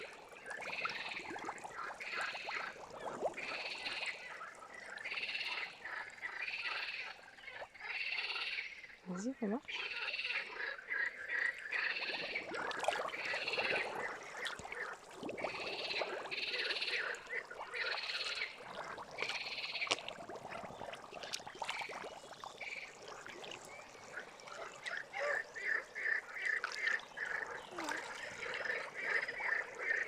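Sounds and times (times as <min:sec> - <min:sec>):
frogs calling: 0:00.0 - 0:20.0, 0:20.6 - 0:30.0.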